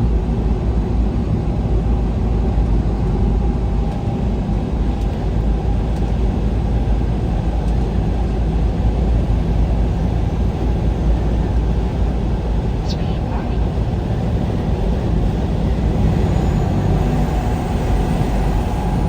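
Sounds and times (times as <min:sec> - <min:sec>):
vehicle driving on highway: 0:00.0 - 0:19.0.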